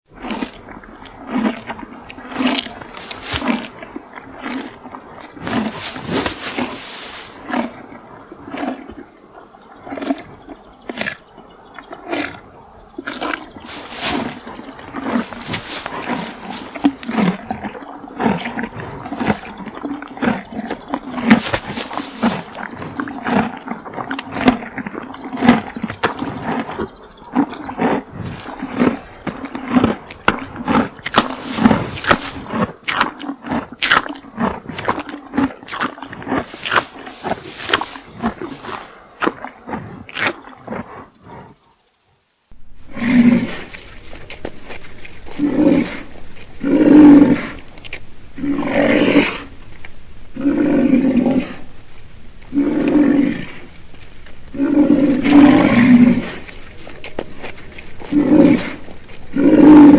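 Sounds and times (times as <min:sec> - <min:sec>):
rhinoceros grunts and snorts: 0:00.1 - 0:41.8, 0:42.6 - 0:59.9.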